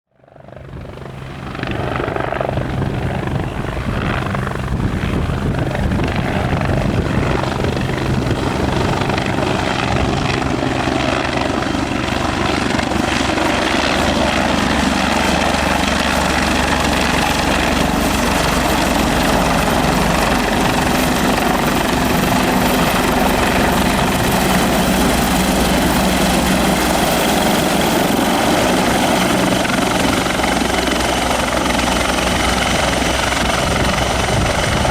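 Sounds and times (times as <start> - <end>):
helicopter rotor beat: 0.2 - 34.9
high turbine whine: 0.8 - 34.9.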